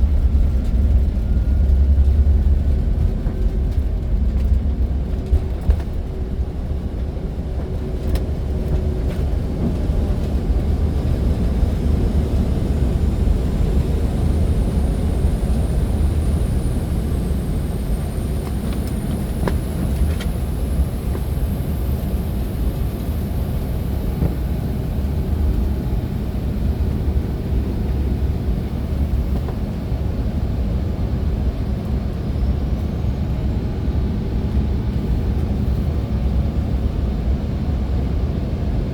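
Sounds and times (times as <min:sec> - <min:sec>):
faint high engine whine: 0:00.0 - 0:38.9
jet engines low rumble: 0:00.0 - 0:38.9.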